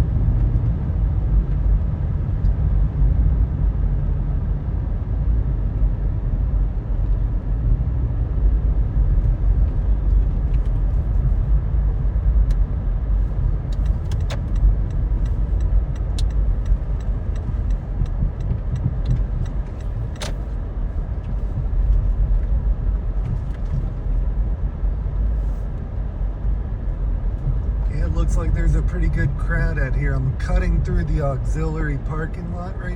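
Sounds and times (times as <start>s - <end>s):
car engine and tyres rumbling: 0.0s - 32.9s.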